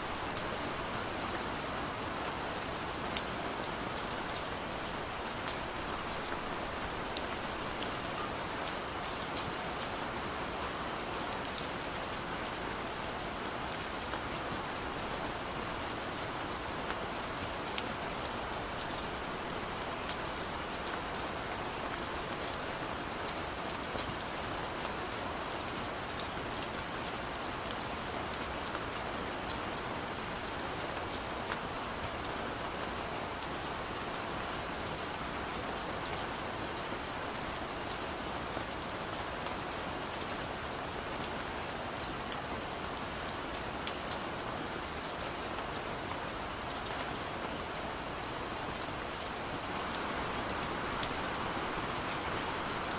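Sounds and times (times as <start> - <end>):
gentle rain falling: 0.0 - 52.9.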